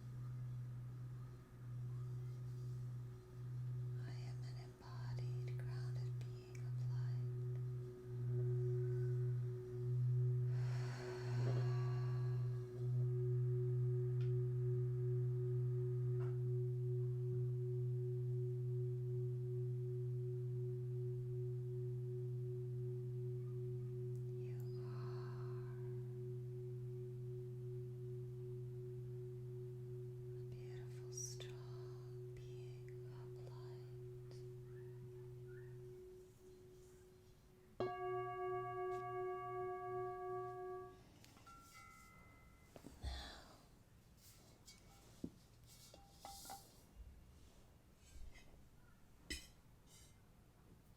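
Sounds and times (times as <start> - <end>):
singing bowl ringing: 0.0 - 43.0.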